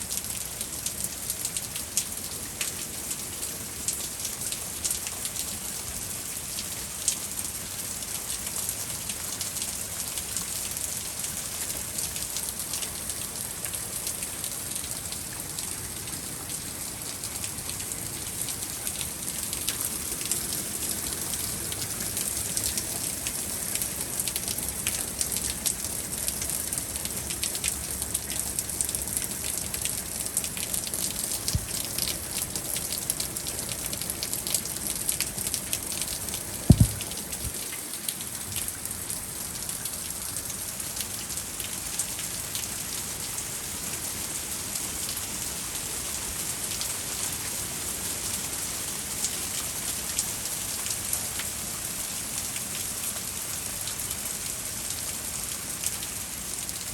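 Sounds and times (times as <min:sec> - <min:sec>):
raindrops ticking on hard surfaces: 0:00.0 - 0:56.9
steady rain falling: 0:00.0 - 0:56.9.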